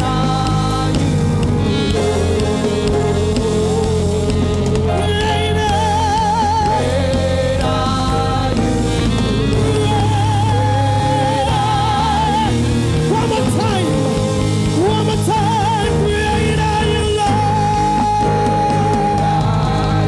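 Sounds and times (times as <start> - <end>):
gospel band playing: 0.0 - 20.0.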